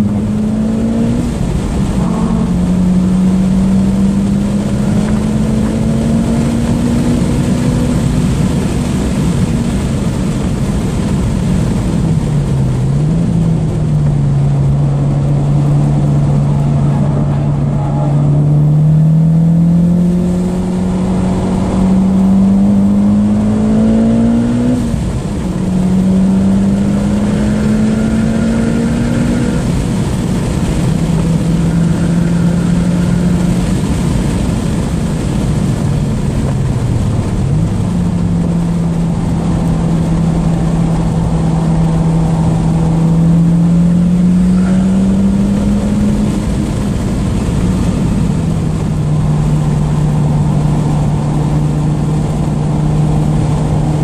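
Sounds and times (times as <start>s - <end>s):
car engine pulling hard: 0.0s - 54.0s
wind noise: 0.0s - 54.0s.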